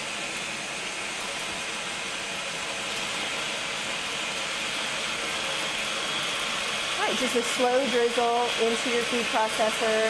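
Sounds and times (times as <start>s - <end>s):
food processor motor running: 0.0s - 10.0s.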